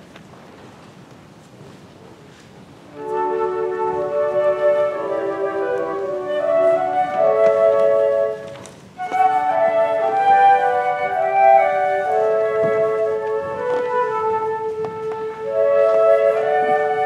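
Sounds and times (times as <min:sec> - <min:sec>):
flute duet: 0:02.9 - 0:17.0.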